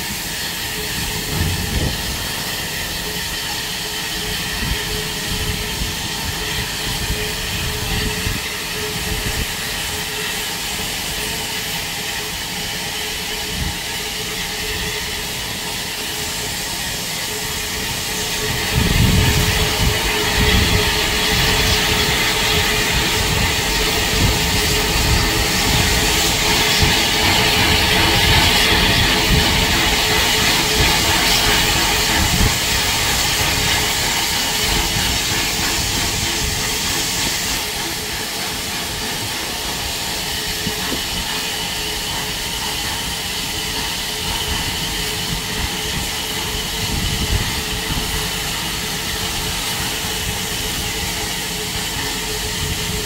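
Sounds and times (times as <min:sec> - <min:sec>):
steam hissing: 0:00.0 - 0:53.0
train rumbling: 0:00.0 - 0:53.0.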